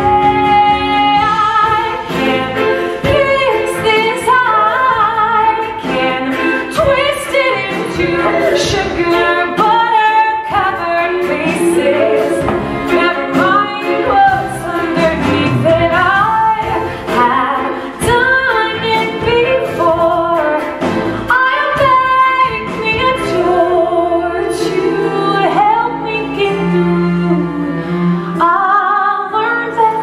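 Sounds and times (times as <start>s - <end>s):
instrumental accompaniment: 0.0s - 30.0s
woman singing: 0.0s - 30.0s.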